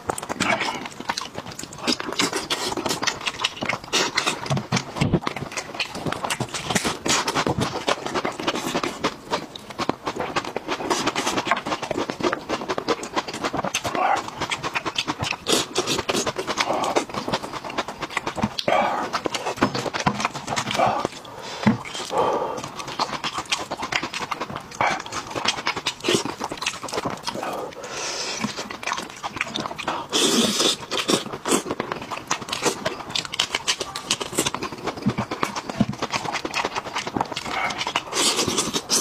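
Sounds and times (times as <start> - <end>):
wet chewing and lip-smacking: 0.0 - 39.0.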